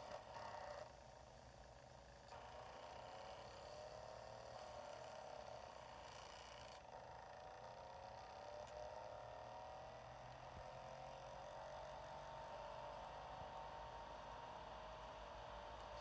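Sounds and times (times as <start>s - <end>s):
rising multi-tone whine: 2.3s - 16.0s.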